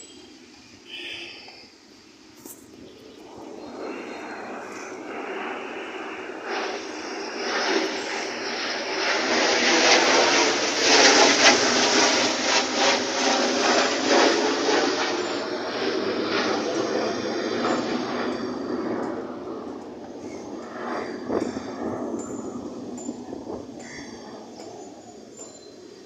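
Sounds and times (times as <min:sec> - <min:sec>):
fighter jet passing by: 0:00.9 - 0:26.0.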